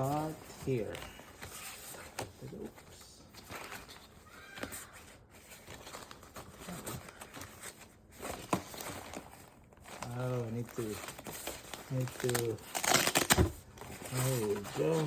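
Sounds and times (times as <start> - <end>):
packaging rustling: 0.0 - 15.0.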